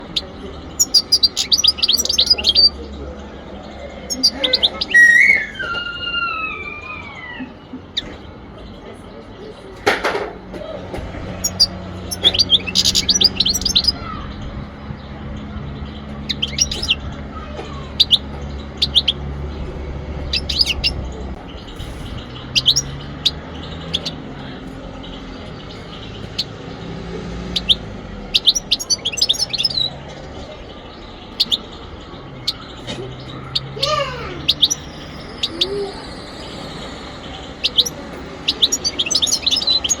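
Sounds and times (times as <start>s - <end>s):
goldfinch chirping: 0.0s - 8.3s, 11.2s - 40.0s.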